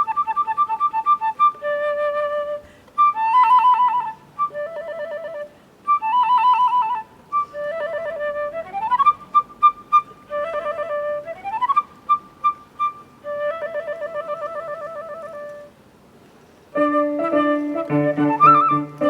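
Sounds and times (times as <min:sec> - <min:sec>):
flute playing classical piece: 0:00.0 - 0:15.8, 0:16.7 - 0:19.0.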